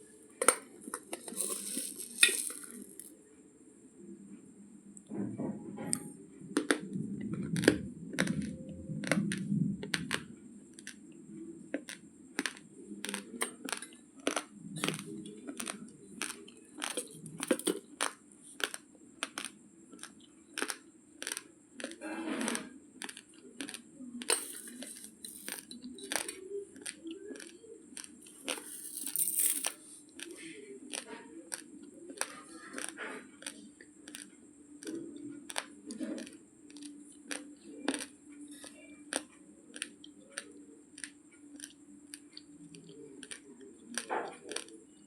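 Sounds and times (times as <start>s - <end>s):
dry rice crunching between teeth: 0.4s - 3.1s, 6.6s - 10.2s, 11.7s - 44.8s.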